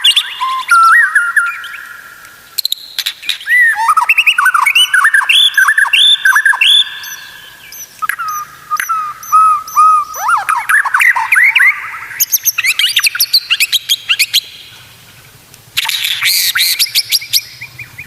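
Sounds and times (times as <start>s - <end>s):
thin high bird chirps: 0.0s - 14.7s, 15.8s - 18.0s
bird whistling song: 0.0s - 14.8s, 15.8s - 18.0s
sharp bird clicks: 0.0s - 14.9s, 15.5s - 18.0s.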